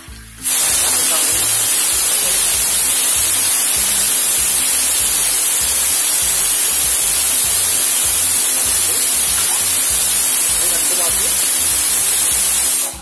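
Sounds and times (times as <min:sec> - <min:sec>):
background music with low beat: 0:00.0 - 0:13.0
tap water running into cup: 0:00.0 - 0:13.0.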